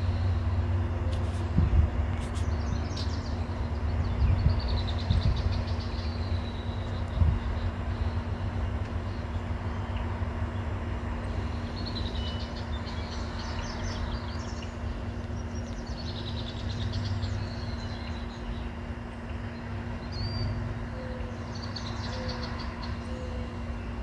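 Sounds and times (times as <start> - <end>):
faint steady hum: 0.0 - 24.0
steady low rumble: 0.0 - 24.0
small birds chirping: 2.2 - 10.6, 11.2 - 23.6.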